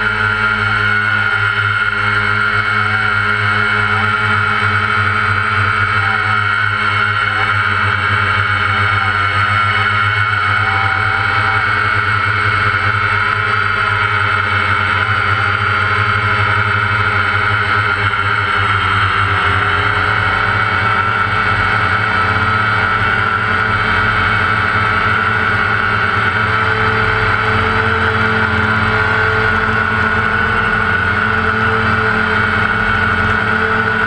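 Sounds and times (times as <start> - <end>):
drone propellers whining: 0.0 - 34.0.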